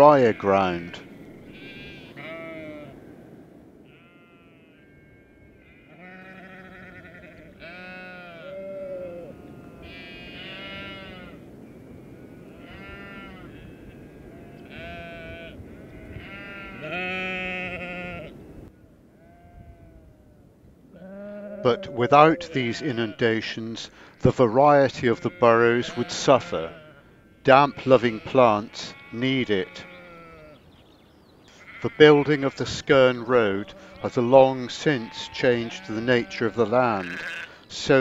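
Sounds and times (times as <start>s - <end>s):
sheep bleating: 0.0s - 3.0s, 3.8s - 18.4s, 21.0s - 30.6s, 31.5s - 38.0s.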